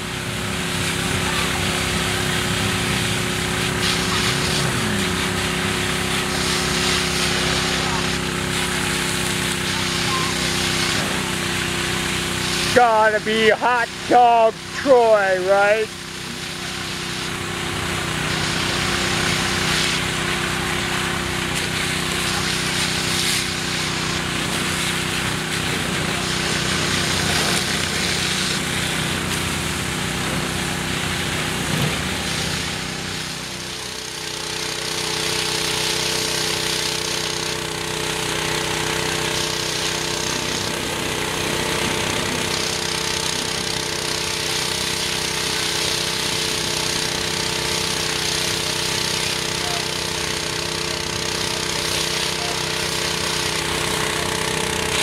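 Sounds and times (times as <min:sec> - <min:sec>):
pressure washer engine running: 0:00.0 - 0:55.0
water jet hissing: 0:00.0 - 0:55.0.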